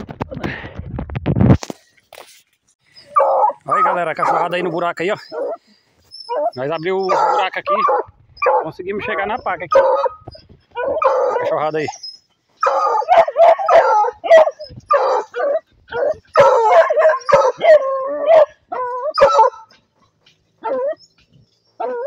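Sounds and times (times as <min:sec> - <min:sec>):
hounds barking and baying: 0:02.9 - 0:22.0.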